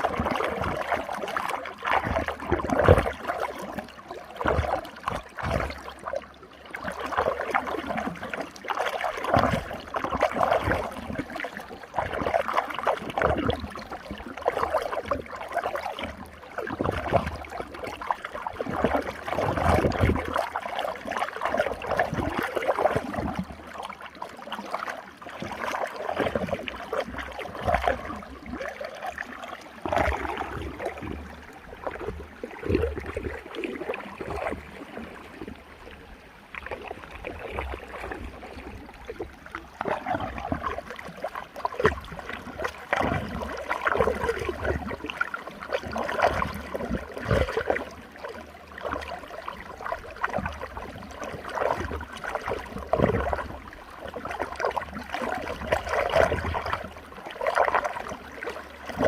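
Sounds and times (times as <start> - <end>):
water swirling and gurgling: 0.0 - 59.0.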